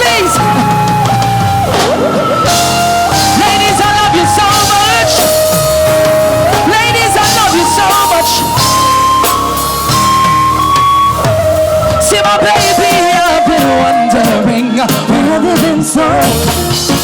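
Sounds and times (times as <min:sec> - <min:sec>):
voices singing: 0:00.0 - 0:10.2, 0:11.1 - 0:17.0
reggae band playing: 0:00.0 - 0:17.0.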